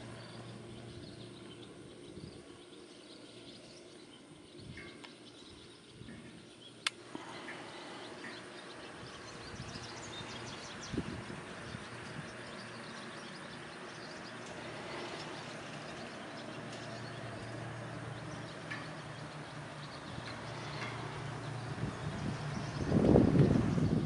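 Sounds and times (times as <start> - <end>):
birds calling: 0.0 - 24.0.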